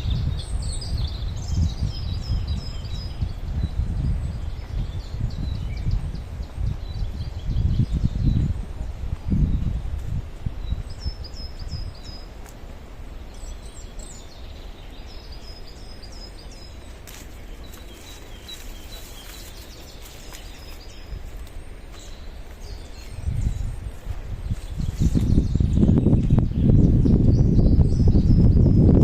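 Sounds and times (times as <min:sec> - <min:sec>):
small songbirds chirping: 0:00.0 - 0:29.0.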